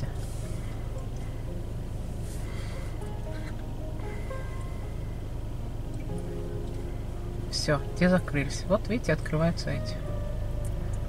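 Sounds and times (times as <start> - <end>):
car engine idling: 0.0 - 11.0
soft held-note music: 0.0 - 11.0.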